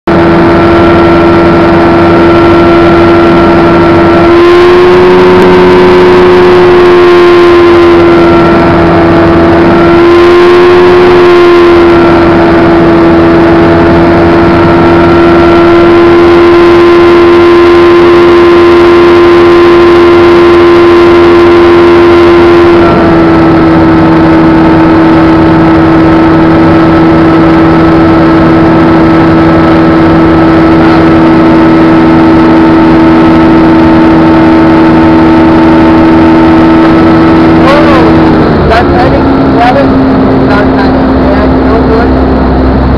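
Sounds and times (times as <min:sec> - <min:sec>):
light aircraft engine droning: 0:00.1 - 0:42.9.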